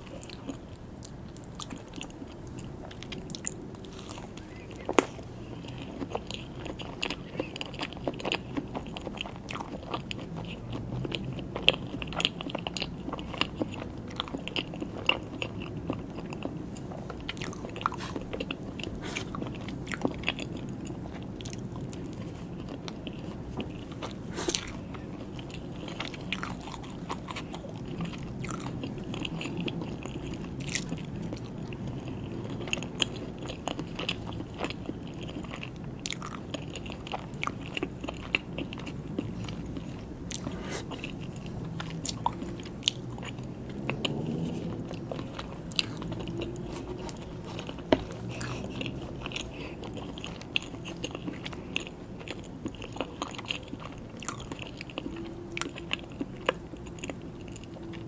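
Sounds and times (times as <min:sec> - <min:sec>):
mouth chewing and smacking: 0:00.0 - 0:58.0.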